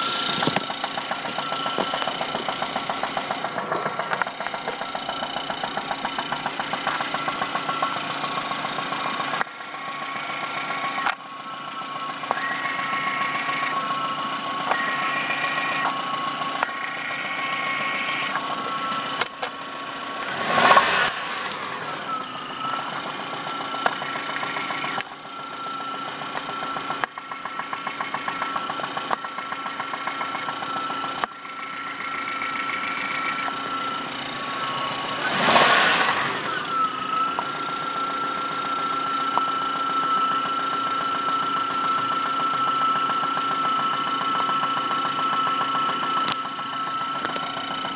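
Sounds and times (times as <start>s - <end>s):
car engine knocking and revving: 0.0s - 47.9s.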